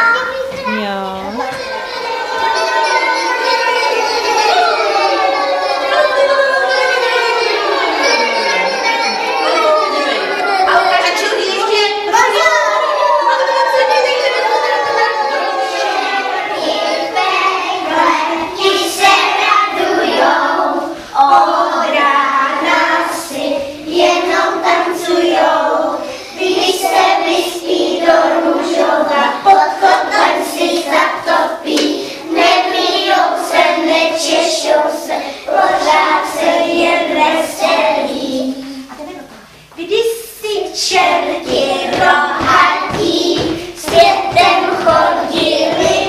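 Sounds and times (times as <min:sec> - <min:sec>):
children singing: 0:00.0 - 0:39.2, 0:40.4 - 0:46.0.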